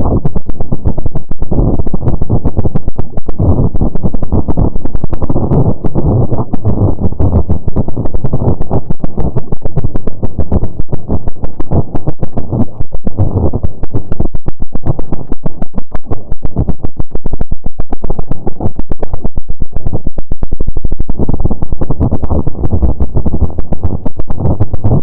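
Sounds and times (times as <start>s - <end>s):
distorted pulsing rumble: 0.0s - 25.0s.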